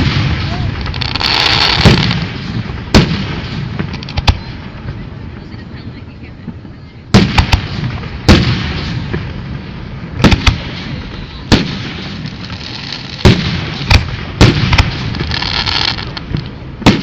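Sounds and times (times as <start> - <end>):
fireworks bursting: 0.0 - 17.0
hissing crackle: 0.0 - 17.0
rumbling echo: 0.0 - 17.0.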